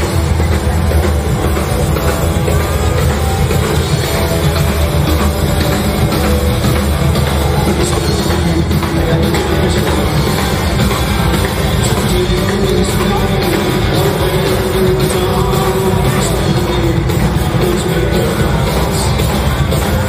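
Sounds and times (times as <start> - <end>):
rock music with drums: 0.0 - 20.0.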